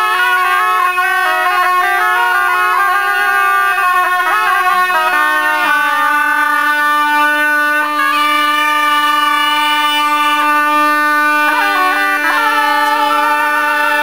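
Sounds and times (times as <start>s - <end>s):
bagpipe playing: 0.0s - 14.0s.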